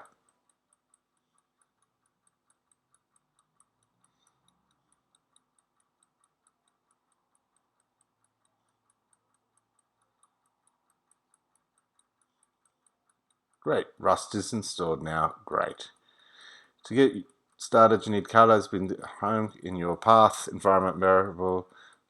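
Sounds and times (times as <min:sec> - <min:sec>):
faint rapid ticking: 0:00.0 - 0:22.0.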